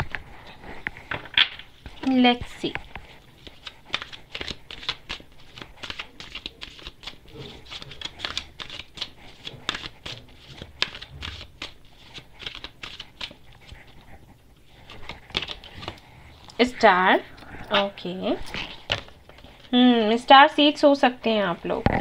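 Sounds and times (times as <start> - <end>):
cards being shuffled by hand: 0.0 - 16.6, 17.7 - 19.8.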